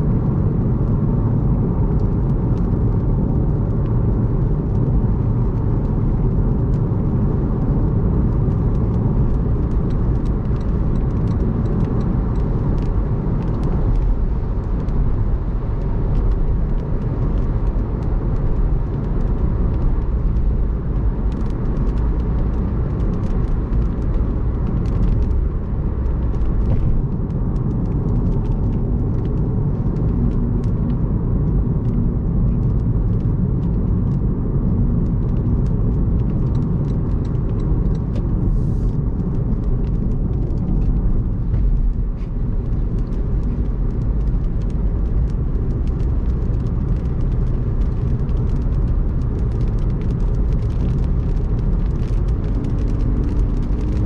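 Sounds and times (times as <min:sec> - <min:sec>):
car road and engine rumble: 0:00.0 - 0:54.0
rain ticking on windshield: 0:00.2 - 0:54.0.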